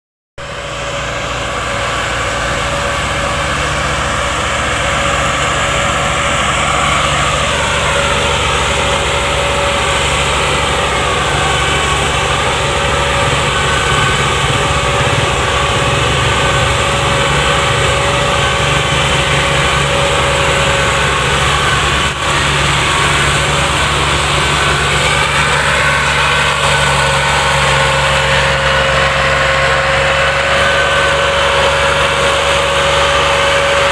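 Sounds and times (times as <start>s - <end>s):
tractor diesel engine running: 0.4s - 33.9s.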